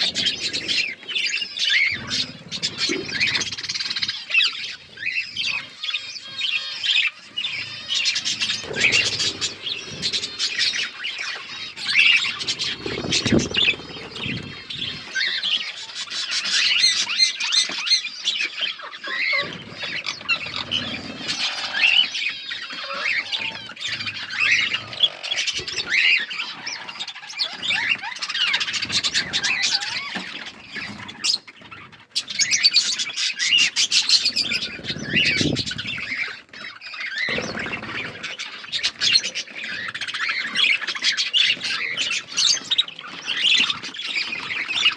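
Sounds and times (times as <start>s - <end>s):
budgerigars chattering and squawking: 0.0s - 44.9s.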